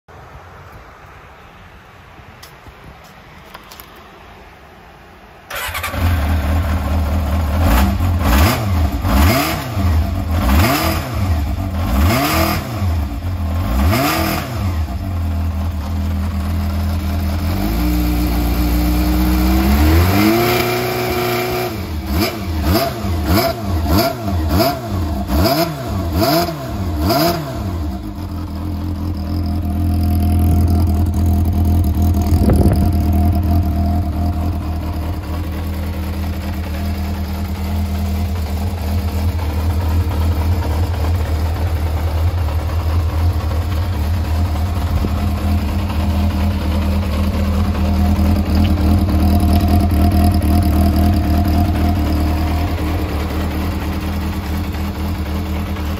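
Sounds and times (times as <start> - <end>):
motorcycle engine revving: 5.5 - 55.9.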